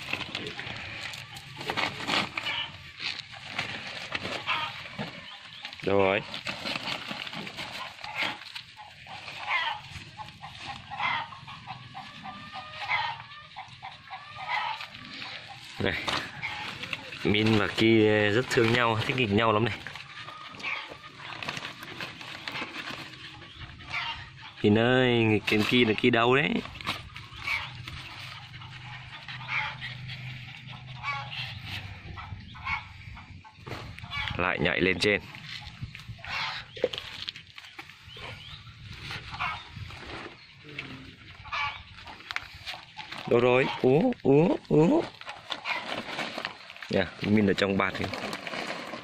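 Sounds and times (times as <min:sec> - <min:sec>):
animals grunting and squeaking: 0:00.0 - 0:49.0.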